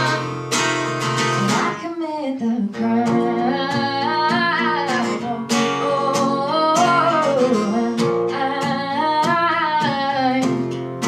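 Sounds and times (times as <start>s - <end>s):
person singing without words: 0.0s - 0.4s, 1.3s - 10.8s
acoustic guitar strummed: 0.0s - 1.9s, 2.7s - 11.0s.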